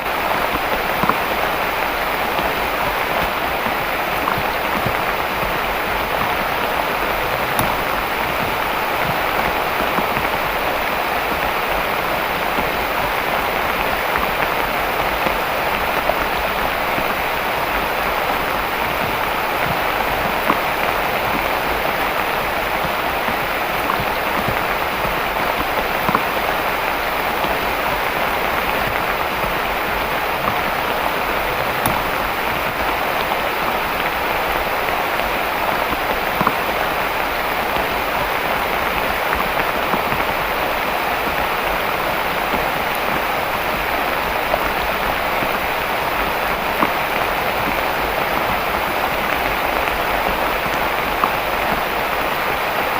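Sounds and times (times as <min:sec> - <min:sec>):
faint raindrop ticks: 0:00.0 - 0:52.3
heavy rain falling: 0:00.0 - 0:52.9.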